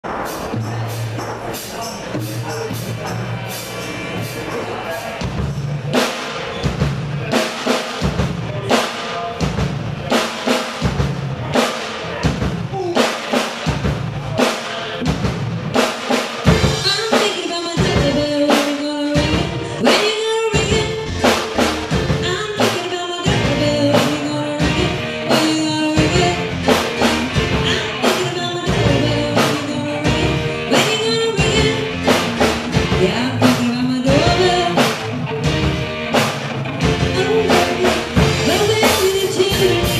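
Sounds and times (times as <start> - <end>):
band melody line: 0.0 - 39.9
drum kit steady beat: 0.0 - 39.9.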